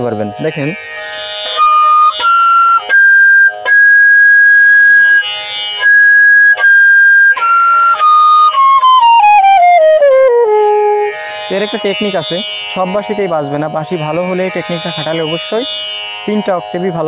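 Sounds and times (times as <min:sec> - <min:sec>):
bamboo flute playing: 0:00.6 - 0:15.7.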